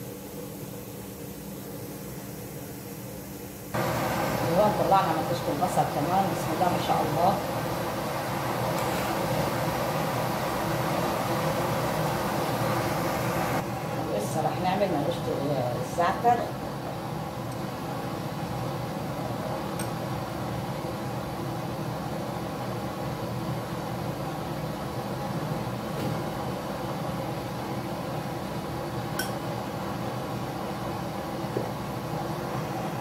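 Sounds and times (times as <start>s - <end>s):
gas oven burners rushing hum: 0.0s - 33.0s.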